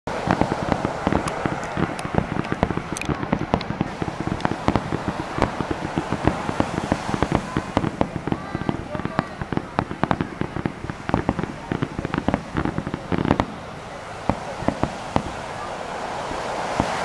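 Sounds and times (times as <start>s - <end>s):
continuous rumble: 0.1s - 17.0s
firework shells bursting: 0.1s - 17.0s.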